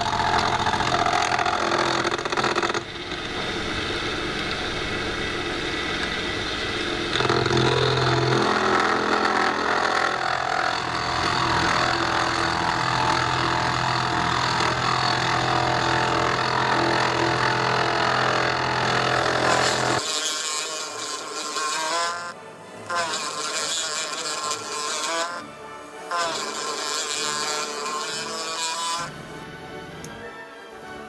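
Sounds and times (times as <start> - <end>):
lathe motor humming: 0.0 - 25.4, 26.0 - 29.4.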